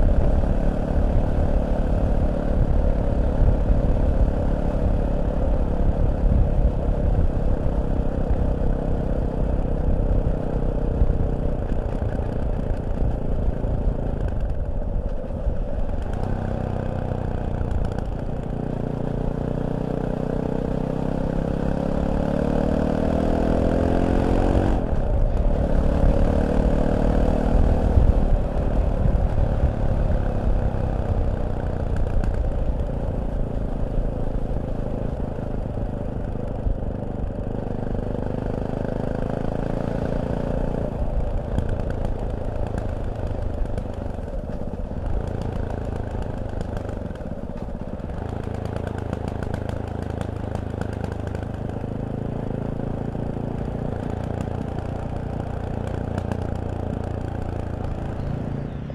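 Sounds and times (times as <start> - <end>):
motorcycle engine revving: 0.0 - 58.9
road and wind rumble: 0.0 - 58.9.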